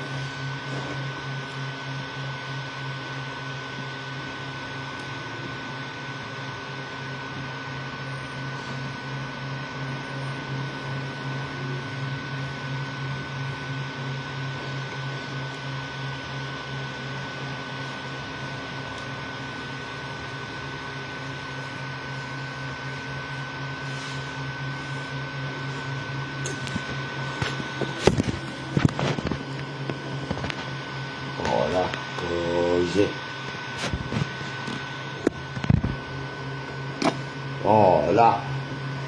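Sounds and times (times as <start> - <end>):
cooling fans rushing: 0.0 - 39.0
stepper motors pulsing hum: 0.0 - 39.0
thin high whine: 0.0 - 39.0.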